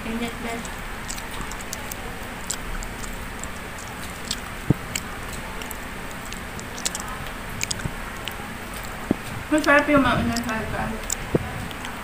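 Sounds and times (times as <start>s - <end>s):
chewing mouth sounds: 0.5s - 12.0s.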